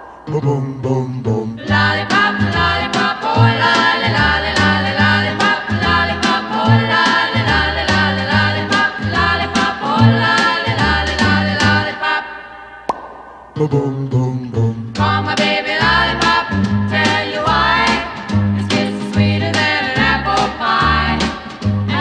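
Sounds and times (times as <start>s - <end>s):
song with singing bass and drums: 0.0s - 12.0s, 12.9s - 22.0s.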